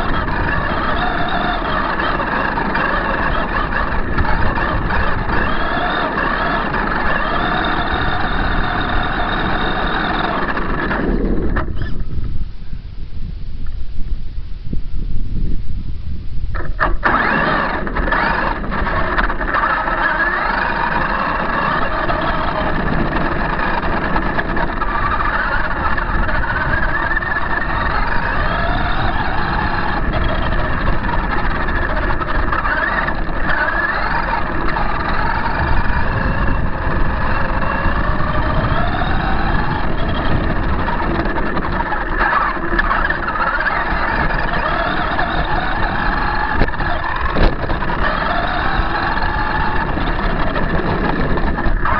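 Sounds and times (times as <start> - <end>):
toy truck motor whine: 0.0 - 12.1, 16.5 - 51.9
chassis rumble and rattle: 0.0 - 51.9.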